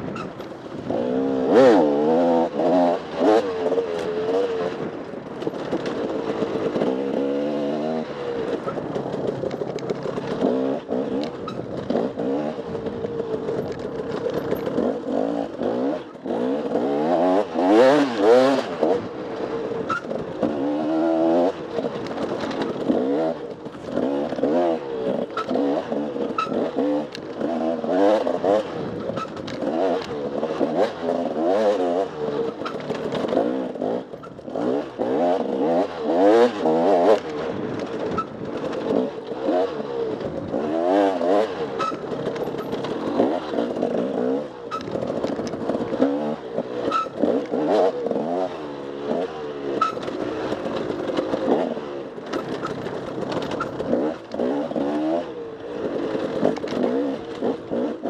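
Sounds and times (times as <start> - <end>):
dirt bike engine revving: 0.2 - 4.9, 9.9 - 58.0.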